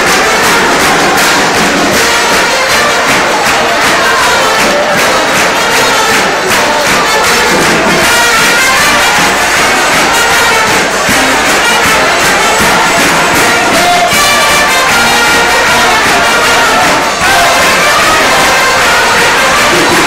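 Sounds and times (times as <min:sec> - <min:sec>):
brass band playing: 0:00.0 - 0:20.0
crowd: 0:00.0 - 0:20.0.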